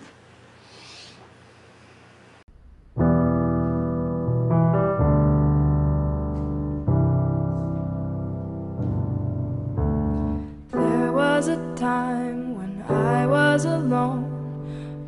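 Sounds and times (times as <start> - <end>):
slow piano chords: 2.5 - 15.0.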